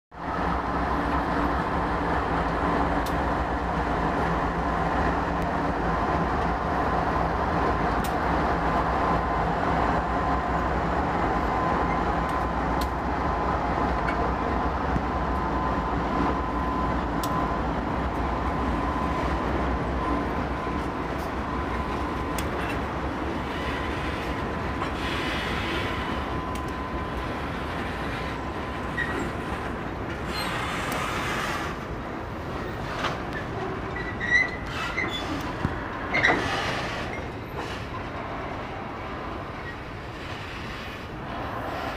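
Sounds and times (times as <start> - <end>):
diesel locomotives rumbling past: 0.1 - 41.9.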